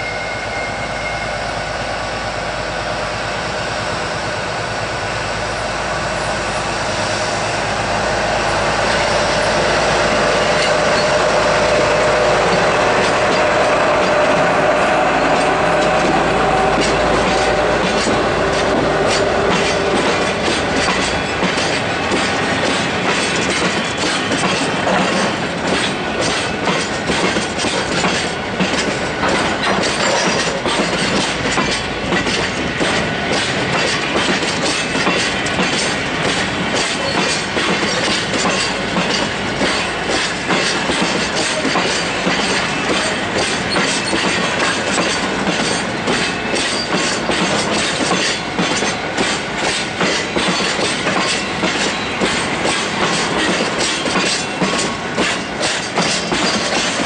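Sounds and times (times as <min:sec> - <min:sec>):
wheels clacking over rail joints: 0:08.8 - 0:57.0.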